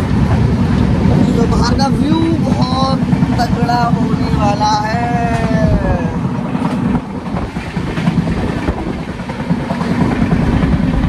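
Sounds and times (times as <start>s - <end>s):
train coach rumbling on rails: 0.0s - 11.0s.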